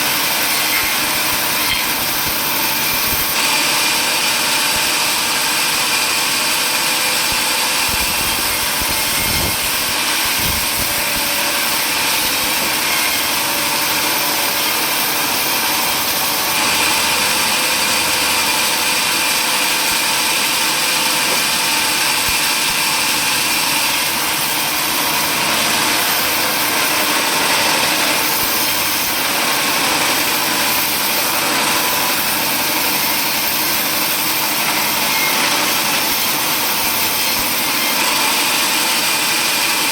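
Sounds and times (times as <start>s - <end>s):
power saw running: 0.0s - 39.9s.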